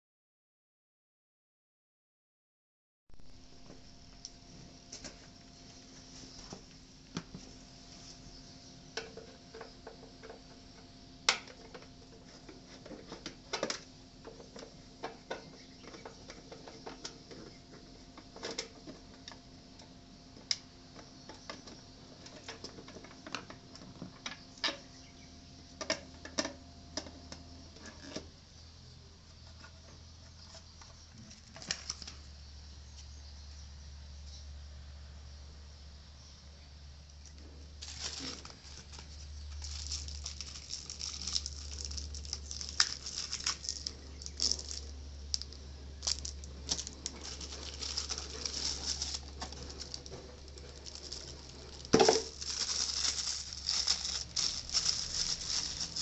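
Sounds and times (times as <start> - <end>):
faint steady hum: 3.1 - 56.0.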